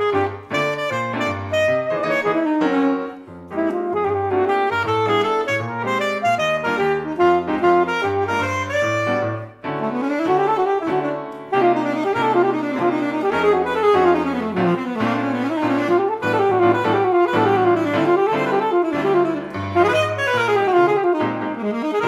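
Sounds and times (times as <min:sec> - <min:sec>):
bass notes: 0:00.0 - 0:21.7
alto saxophone melody: 0:00.0 - 0:22.0
piano chords: 0:00.0 - 0:22.0.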